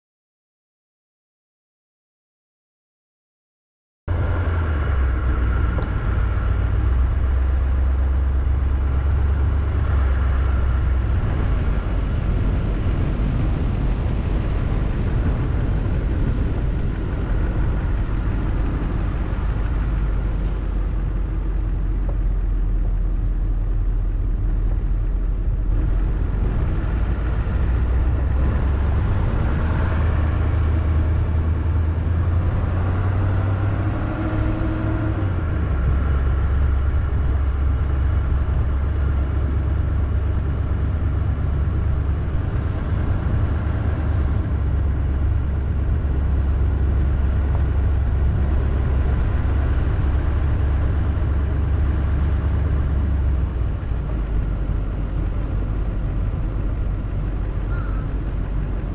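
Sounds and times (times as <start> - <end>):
tyre road rumble: 4.1 - 58.9
vehicle engine driving slowly: 4.1 - 58.9.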